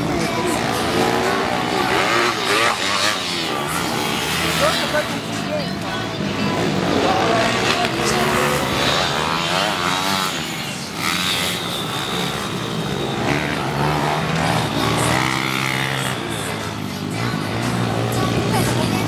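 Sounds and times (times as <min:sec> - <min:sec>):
pit bike engines revving: 0:00.0 - 0:19.0.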